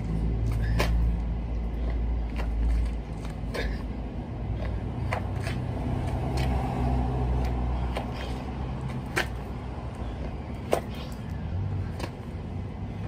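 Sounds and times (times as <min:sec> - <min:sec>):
hands and sneakers striking asphalt: 0:00.0 - 0:13.0.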